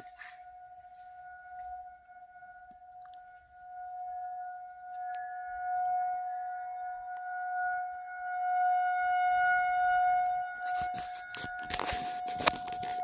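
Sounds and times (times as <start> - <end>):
weather warning siren: 0.0 - 13.0.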